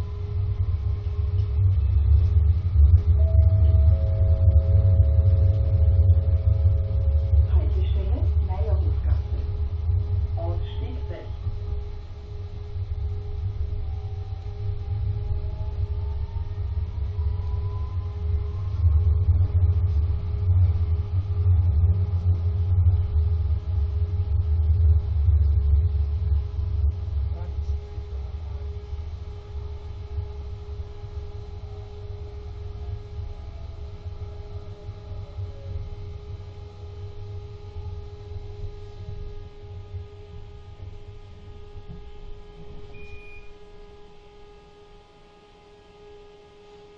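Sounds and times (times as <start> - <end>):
tram wheels rumbling: 0.0 - 44.4
faint falling whine: 0.0 - 46.9
steady hum: 0.0 - 46.9.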